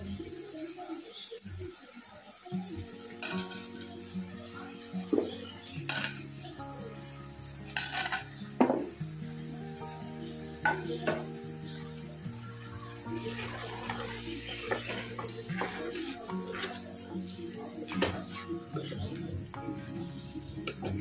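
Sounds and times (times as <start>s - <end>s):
background music with held notes: 0.0s - 21.0s
soft sizzle: 0.0s - 21.0s.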